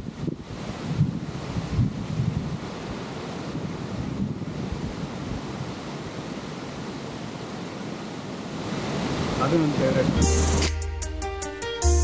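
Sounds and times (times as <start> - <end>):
wind rushing over microphone: 0.0 - 10.2.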